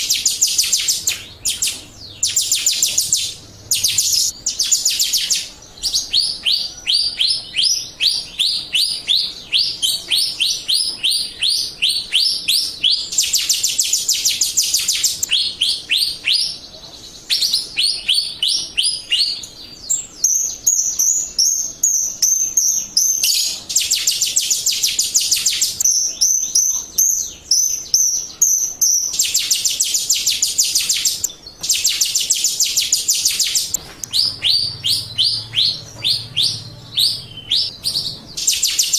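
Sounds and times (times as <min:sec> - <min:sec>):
starling chirping and trilling: 0:00.0 - 0:38.9.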